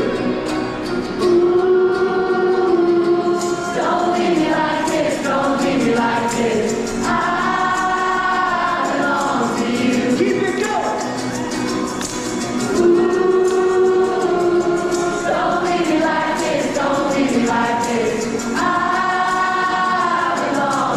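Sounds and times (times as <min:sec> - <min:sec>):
voices singing long notes: 0:01.2 - 0:10.2, 0:11.4 - 0:20.9
live band playing: 0:03.1 - 0:19.9.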